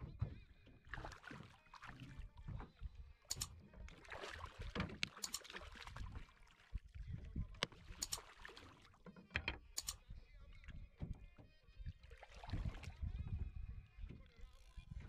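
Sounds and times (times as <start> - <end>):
low watery rumble: 0.0 - 9.1, 10.1 - 15.0.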